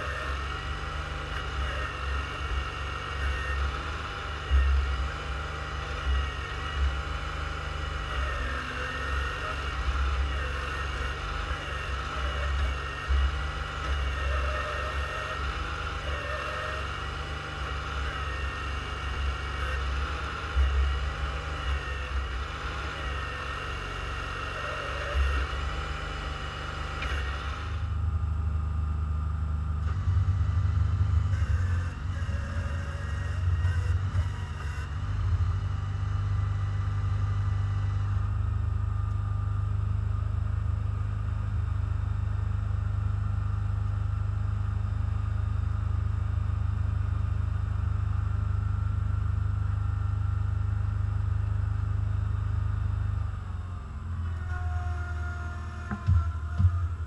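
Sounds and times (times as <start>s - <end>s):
steady whine: 0.0s - 57.0s
tractor engine running: 0.0s - 57.0s.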